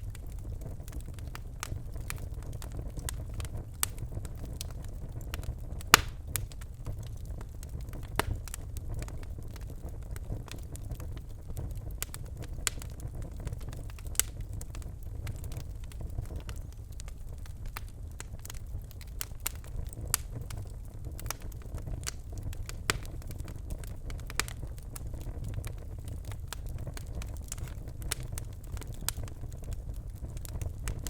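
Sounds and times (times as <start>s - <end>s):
fire crackling and popping: 0.0s - 31.0s
fire rumbling: 0.0s - 31.0s.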